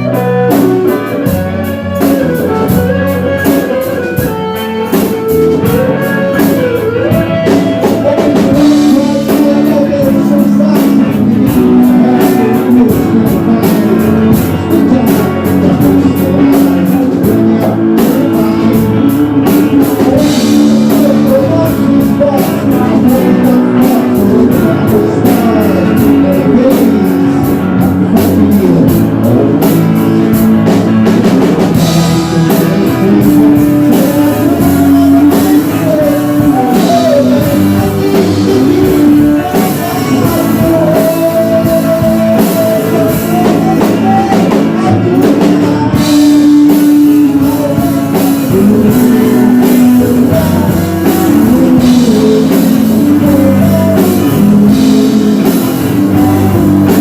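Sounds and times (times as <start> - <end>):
drum kit: 0.0 - 57.0
electric guitar: 0.0 - 57.0
person singing: 0.0 - 57.0
rock band playing: 0.0 - 57.0.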